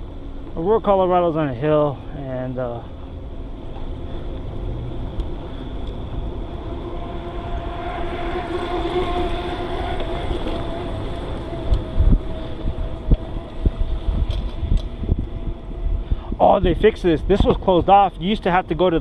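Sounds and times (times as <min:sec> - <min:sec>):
faint wavering hum: 0:00.0 - 0:19.0
bicycle tyre noise: 0:01.8 - 0:18.3
wind rumble on microphone: 0:02.6 - 0:19.0.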